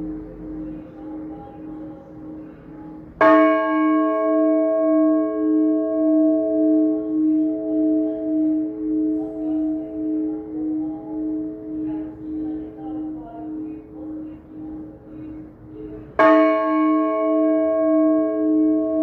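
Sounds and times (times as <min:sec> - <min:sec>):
church bell ringing: 0:00.0 - 0:19.0.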